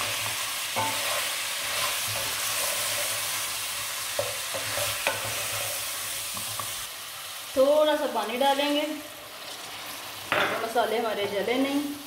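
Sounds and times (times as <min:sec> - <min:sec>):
meat sizzling in a pot: 0:00.0 - 0:12.0.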